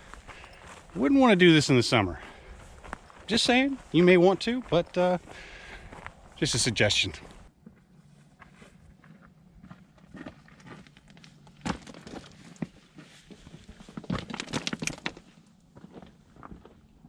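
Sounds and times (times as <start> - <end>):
footsteps crunching on gravel: 0.0 - 17.0.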